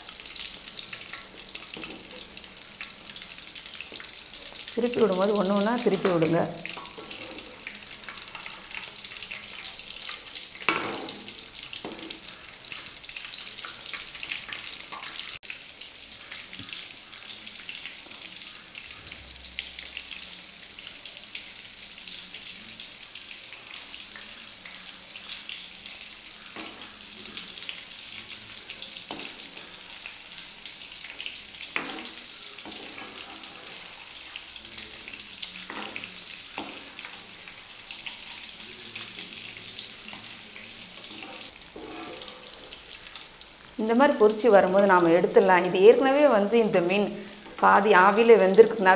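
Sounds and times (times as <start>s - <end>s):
fish deep-frying in oil: 0.0s - 48.9s.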